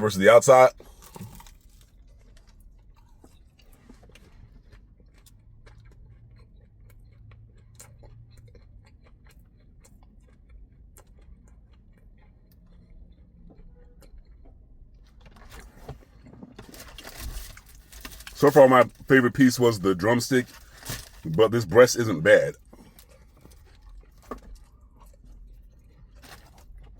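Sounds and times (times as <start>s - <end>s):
chewing fried chicken: 0.0s - 26.9s.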